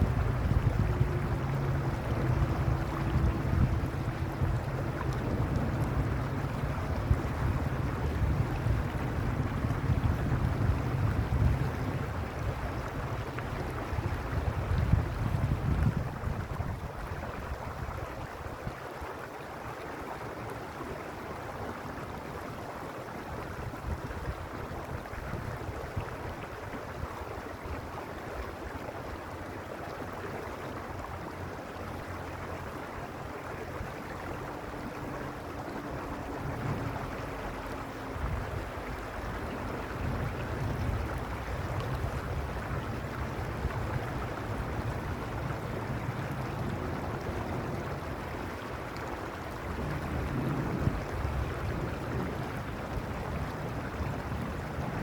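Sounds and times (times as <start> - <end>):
wind gusts on microphone: 0.0 - 18.8, 23.3 - 55.0
creek water flowing: 0.0 - 55.0.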